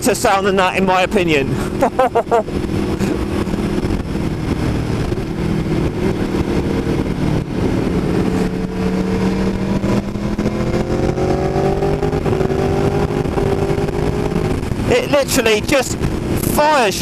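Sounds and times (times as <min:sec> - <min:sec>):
motorcycle engine accelerating: 0:01.5 - 0:16.8.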